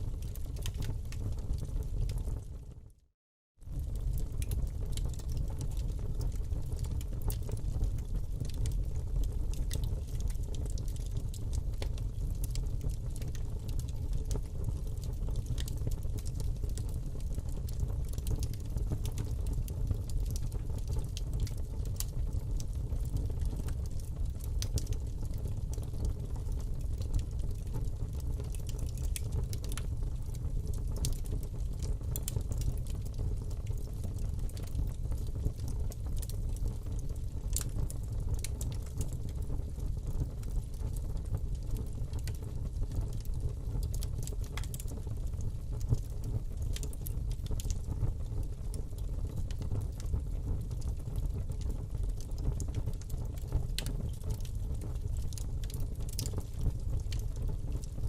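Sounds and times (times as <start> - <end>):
low rumble of flame: 0.0 - 58.0
wood crackling and popping: 0.1 - 2.6, 3.6 - 58.0.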